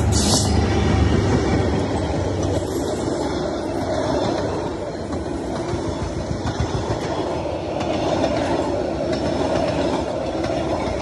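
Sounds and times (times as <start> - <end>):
rail clicks: 0.0 - 11.0
train wheels rumbling on rails: 0.0 - 11.0.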